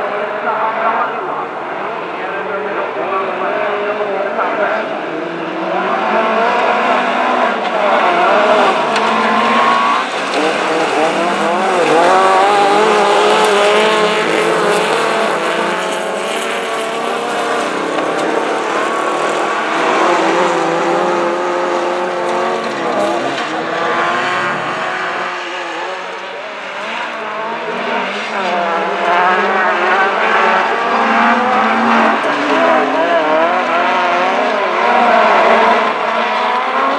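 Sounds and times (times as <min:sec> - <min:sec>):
race car engines revving: 0:00.0 - 0:36.9.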